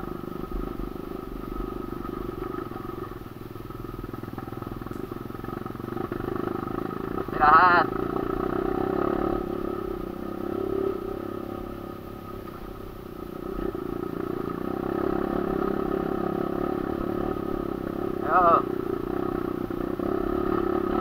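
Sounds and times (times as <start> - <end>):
trail bike engine running: 0.0 - 21.0.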